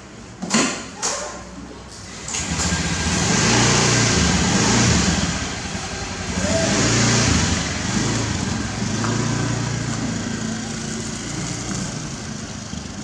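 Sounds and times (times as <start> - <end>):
scooter engine revving: 2.0 - 13.0.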